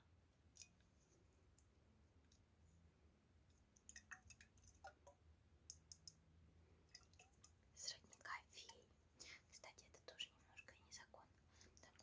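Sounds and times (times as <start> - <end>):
faint small clicks and taps: 0.5 - 2.5, 3.5 - 8.8, 9.6 - 12.0.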